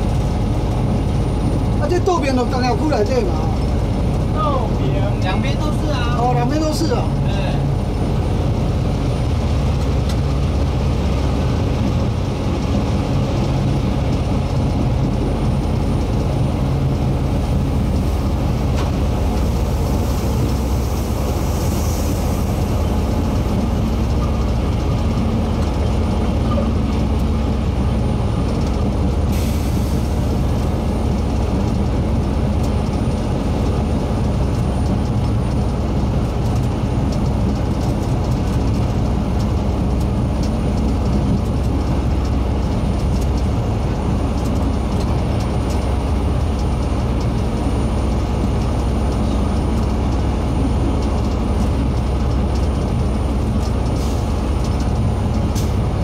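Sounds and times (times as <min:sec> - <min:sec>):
locomotive engine drone: 0:00.0 - 0:56.0
train rolling rumble and rattle: 0:00.0 - 0:56.0.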